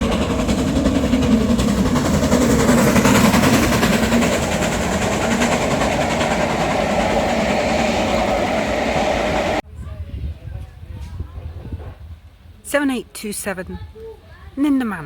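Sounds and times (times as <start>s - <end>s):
steam train rumbling along track: 0.0s - 12.5s.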